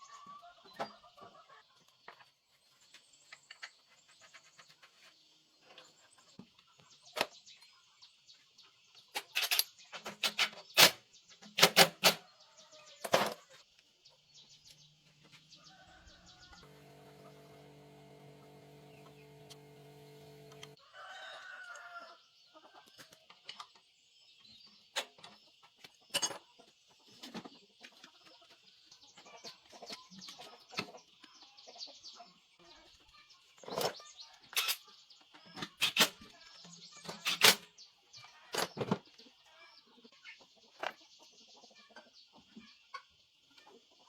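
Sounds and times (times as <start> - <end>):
chickens clucking: 0.0 - 20.9, 21.5 - 44.0.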